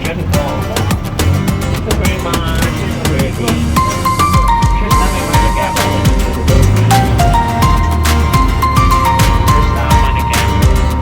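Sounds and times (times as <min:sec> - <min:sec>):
music with bass and drums: 0:00.0 - 0:11.0.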